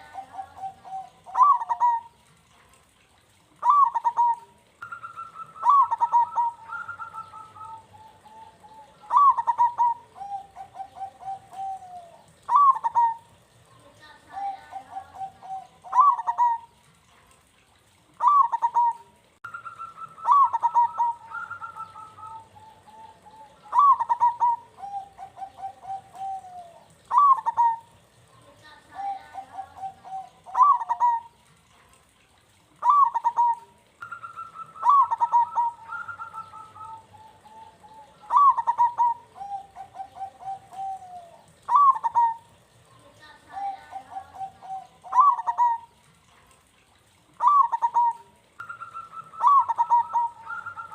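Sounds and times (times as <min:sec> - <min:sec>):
dove cooing: 0:00.0 - 0:17.2, 0:18.1 - 0:31.5, 0:32.7 - 0:46.1, 0:47.0 - 0:50.9.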